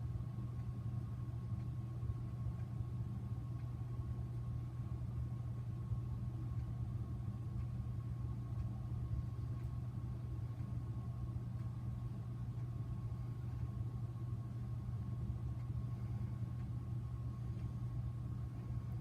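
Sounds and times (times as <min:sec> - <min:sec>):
ceiling fan motor hum: 0:00.0 - 0:19.0
faint high whine: 0:00.0 - 0:19.0.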